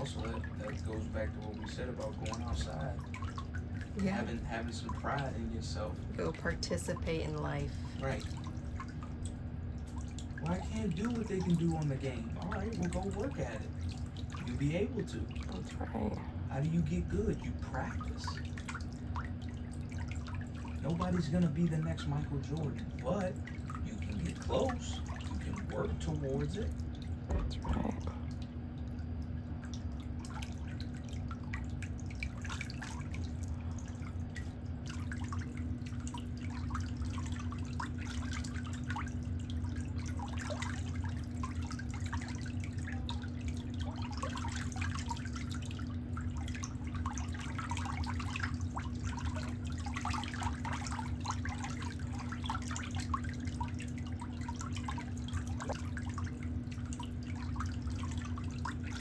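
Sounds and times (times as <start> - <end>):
steady low hum: 0.0 - 59.0
water dripping and trickling: 0.0 - 59.0.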